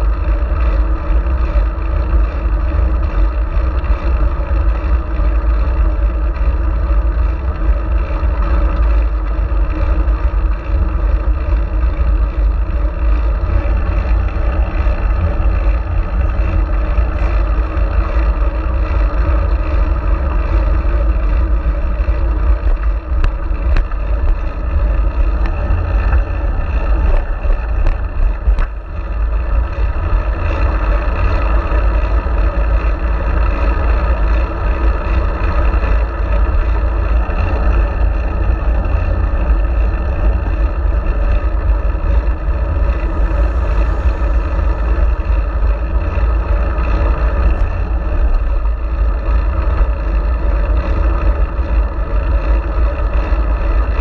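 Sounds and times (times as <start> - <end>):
bicycle road noise: 0.0 - 54.0
wind rumble: 0.0 - 54.0.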